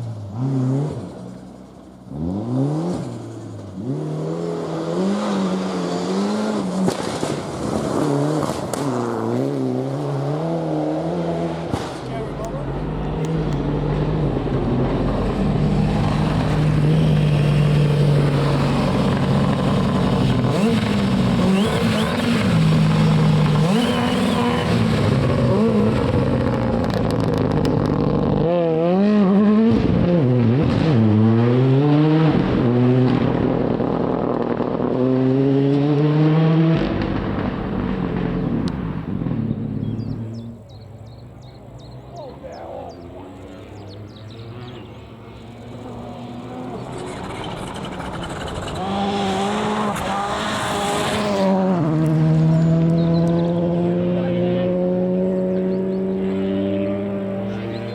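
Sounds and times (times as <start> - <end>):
rally car engine revving: 0.0 - 57.9.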